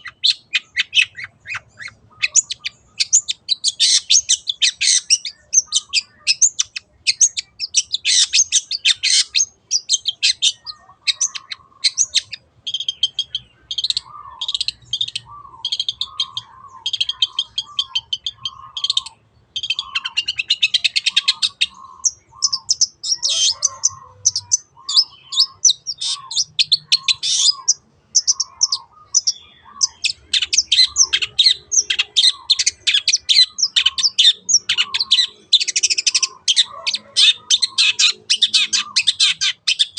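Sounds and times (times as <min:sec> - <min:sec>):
shrike chattering song: 0:00.0 - 0:39.9.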